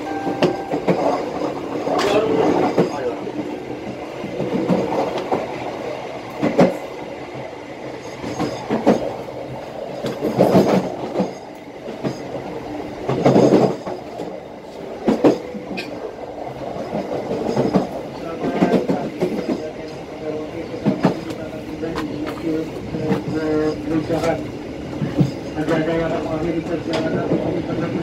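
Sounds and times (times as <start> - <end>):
clickety-clack over rail joints: 0.0 - 28.0
train wheels rumbling on rails: 0.0 - 28.0.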